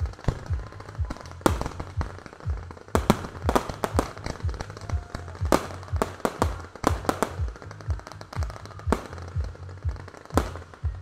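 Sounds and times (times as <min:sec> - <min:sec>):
fireworks launch reports and bursts: 0:00.0 - 0:11.0.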